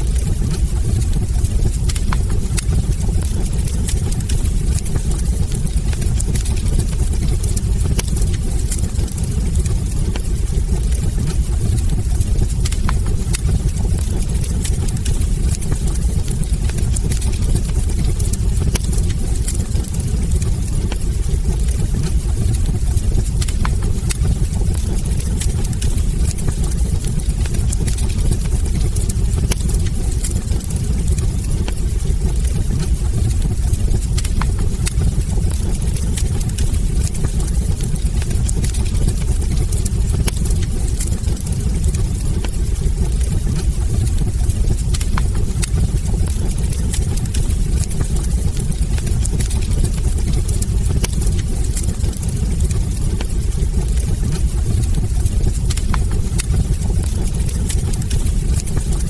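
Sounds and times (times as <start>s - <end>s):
fire crackling and popping: 0.0s - 59.0s
wood fire rumbling: 0.0s - 59.0s.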